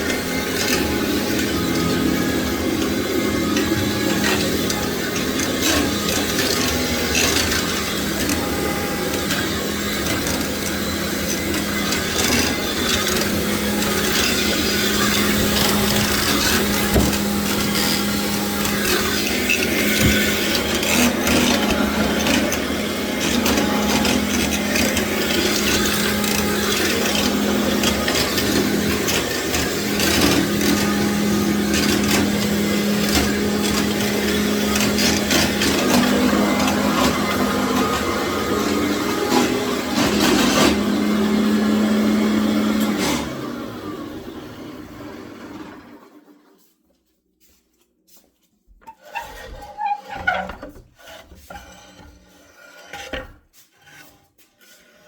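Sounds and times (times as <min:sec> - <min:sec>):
floor head scraping tiles: 0:00.0 - 0:43.4, 0:48.8 - 0:55.0
vacuum cleaner running: 0:00.0 - 0:46.7.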